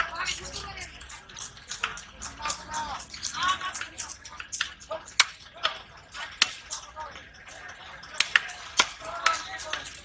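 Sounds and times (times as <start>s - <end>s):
faint voices: 0.0s - 10.0s.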